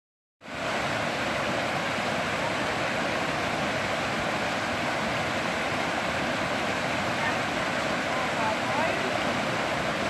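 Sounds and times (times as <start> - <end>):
creek water rushing over rocks: 0.4 - 10.0.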